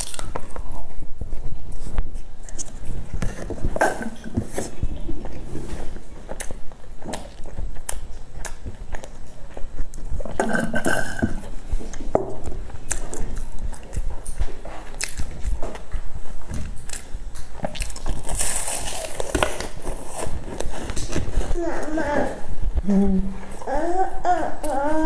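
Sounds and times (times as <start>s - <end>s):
person chewing pastry: 0.0s - 21.9s.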